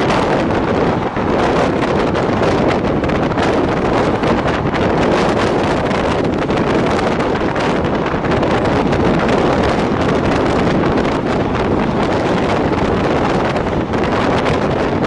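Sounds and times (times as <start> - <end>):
moving train running noise: 0.0 - 15.0
wind buffeting microphone: 0.0 - 15.0.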